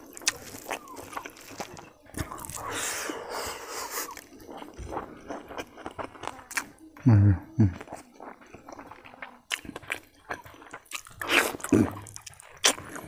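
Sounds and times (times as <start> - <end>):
person chewing and smacking: 0.0 - 13.0.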